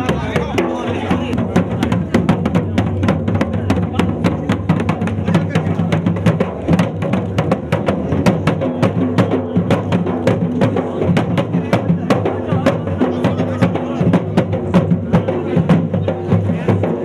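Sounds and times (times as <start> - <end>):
fast drumming: 0.0 - 17.0.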